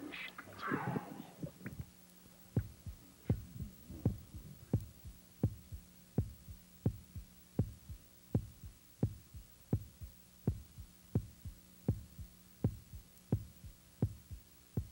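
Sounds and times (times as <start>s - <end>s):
faint steady hum: 0.0s - 14.9s
heartbeat pulse thumps: 2.5s - 14.9s.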